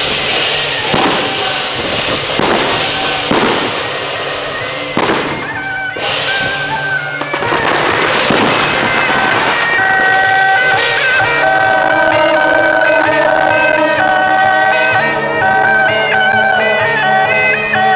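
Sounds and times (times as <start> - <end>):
firecrackers crackling: 0.0 - 17.9
traditional procession music: 0.0 - 17.9.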